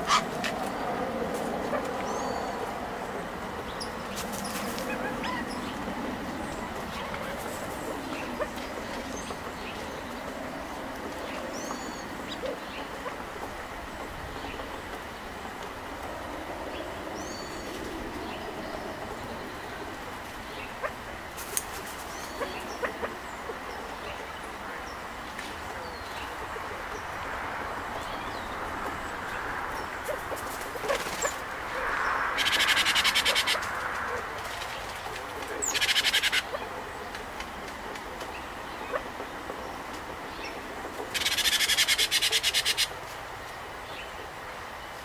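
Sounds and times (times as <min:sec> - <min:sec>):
outdoor background hum: 0:00.0 - 0:45.0.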